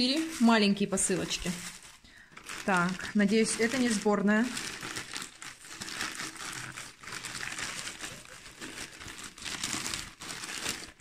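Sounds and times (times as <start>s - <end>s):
plastic mailer bag crinkling: 0.0s - 11.0s.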